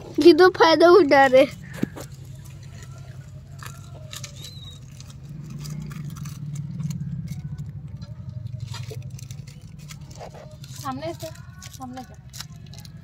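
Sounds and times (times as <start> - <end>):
monkeys chewing biscuits: 1.2 - 13.0.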